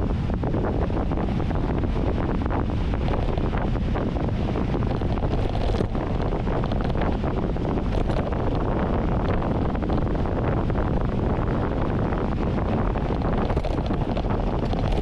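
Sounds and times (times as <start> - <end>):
bike tyres rumbling: 0.0 - 15.0
wind buffeting microphone: 0.0 - 15.0
bike knocking and rattling: 1.0 - 10.2, 11.2 - 15.0.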